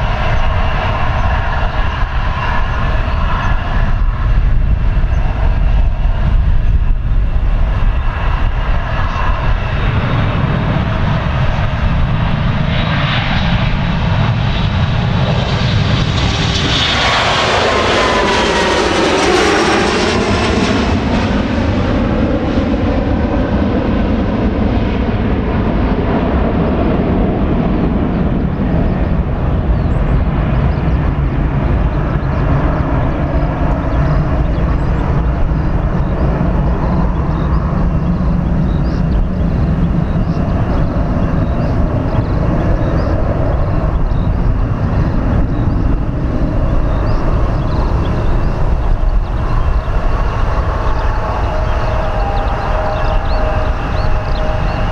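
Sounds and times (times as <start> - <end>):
jet airliner taking off: 0.0 - 54.9.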